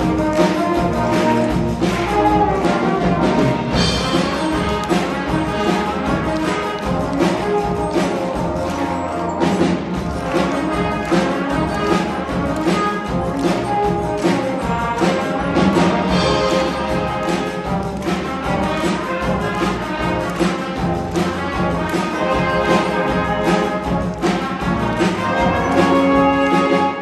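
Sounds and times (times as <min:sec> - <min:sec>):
brass band playing: 0:00.0 - 0:27.0
steady drum beat: 0:00.0 - 0:27.0.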